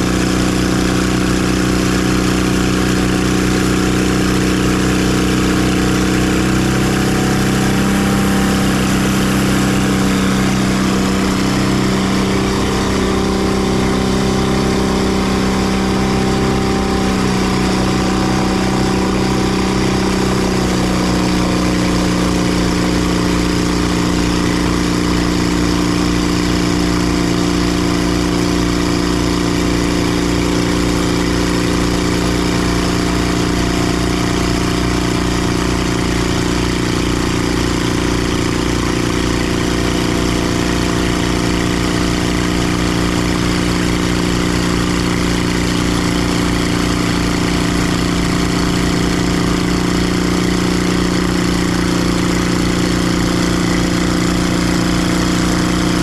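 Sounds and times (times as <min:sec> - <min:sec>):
gas engine running: 0:00.0 - 0:56.0.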